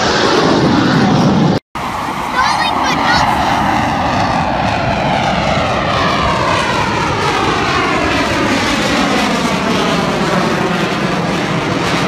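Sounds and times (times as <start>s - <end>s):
jet engine rush: 0.0s - 12.0s.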